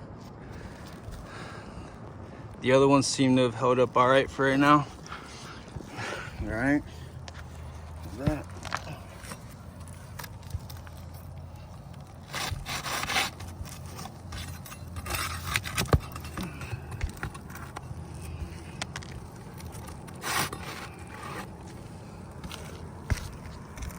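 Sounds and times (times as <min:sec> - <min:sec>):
scraping on shingle roof: 0:04.6 - 0:23.9.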